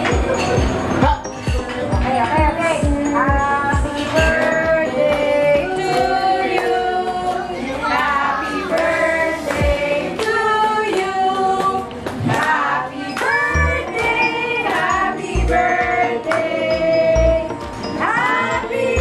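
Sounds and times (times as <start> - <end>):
song with singing voices: 1.0 - 19.0.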